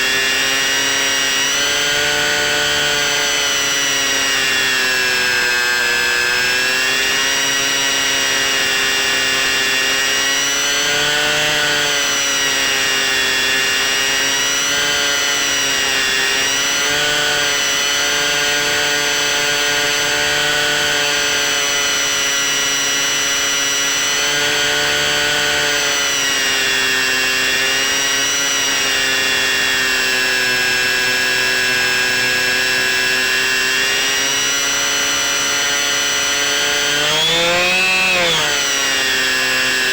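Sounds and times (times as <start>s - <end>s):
model plane motor whining: 0.0s - 39.9s.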